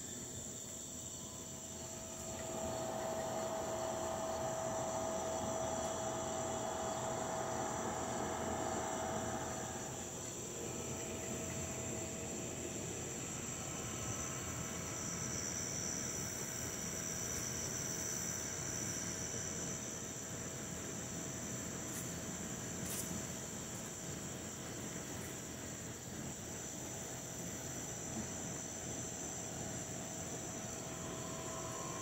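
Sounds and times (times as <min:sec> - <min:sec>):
night insects trilling: 0:00.0 - 0:32.0
low buzz: 0:01.2 - 0:32.0.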